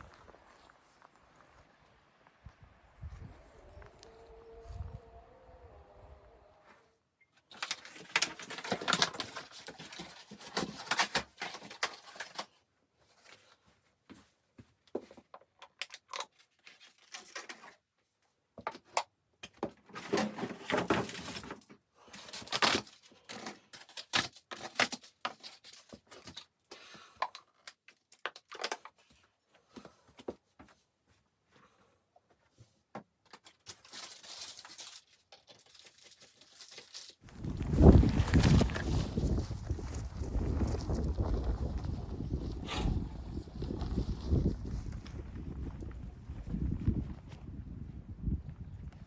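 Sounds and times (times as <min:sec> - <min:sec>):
handling crackling and rustling: 0:07.3 - 0:47.4.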